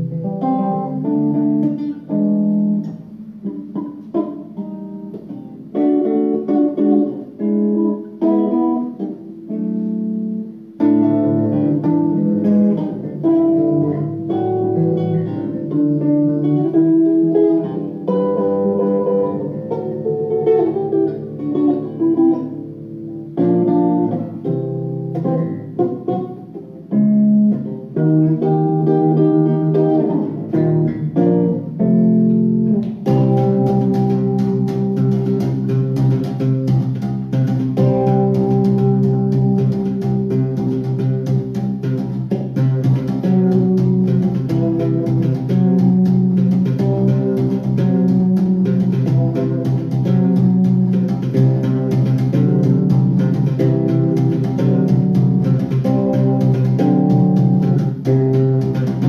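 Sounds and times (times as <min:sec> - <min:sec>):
electric bass guitar playing: 0:00.0 - 0:59.0.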